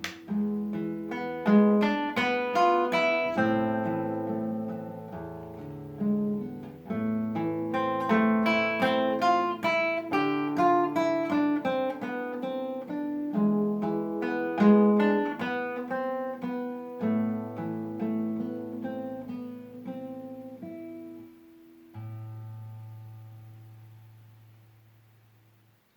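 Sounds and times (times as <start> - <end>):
acoustic guitar playing: 0.0 - 25.9.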